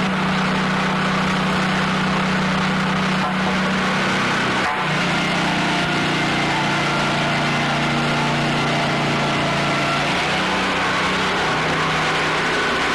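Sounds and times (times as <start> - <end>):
sawmill running: 0.0 - 12.9.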